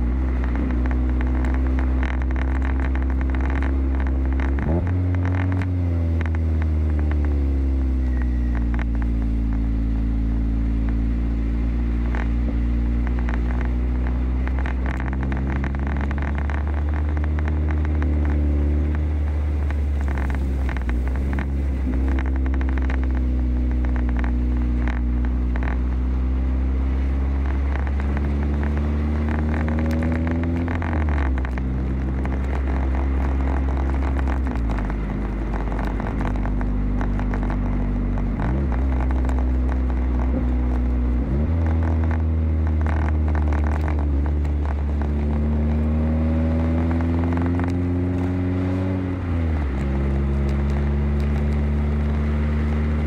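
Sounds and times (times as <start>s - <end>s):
tyres crackling on packed snow: 0.0s - 9.7s, 10.3s - 53.0s
car engine running: 0.0s - 53.0s.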